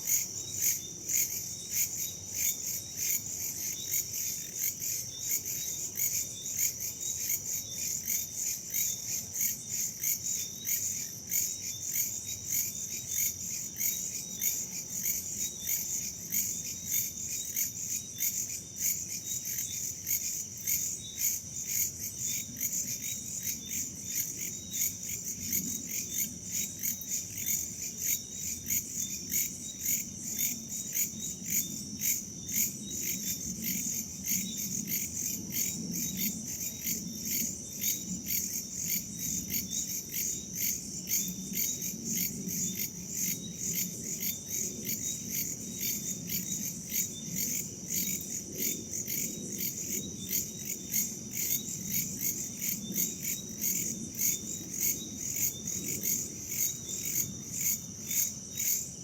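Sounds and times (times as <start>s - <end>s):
crickets trilling: 0.0s - 59.0s
insects chirping: 0.0s - 59.0s.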